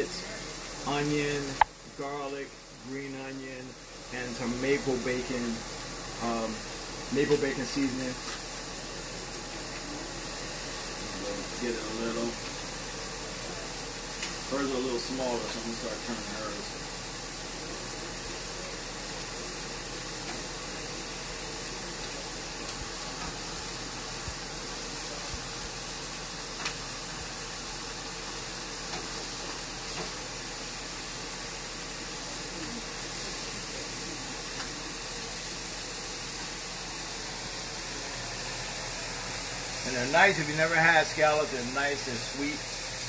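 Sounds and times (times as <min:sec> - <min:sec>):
scallops sizzling in frying pans: 0:00.0 - 0:43.0.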